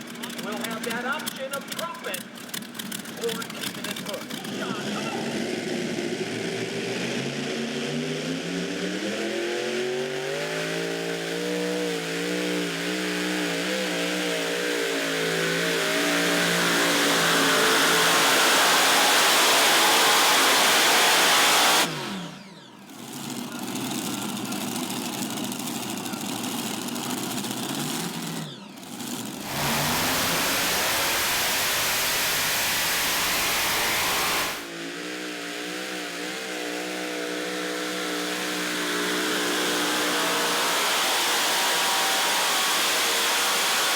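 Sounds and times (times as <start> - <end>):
tractor engine at full throttle: 0.0 - 43.9.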